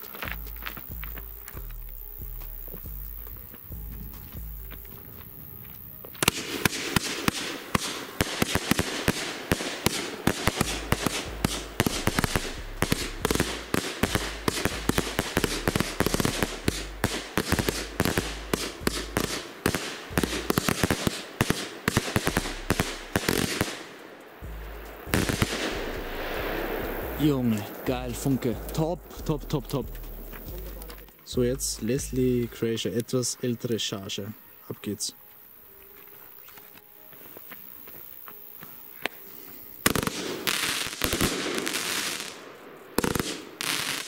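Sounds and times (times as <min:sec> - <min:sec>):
fireworks cracking: 0:00.0 - 0:33.1, 0:36.5 - 0:44.0.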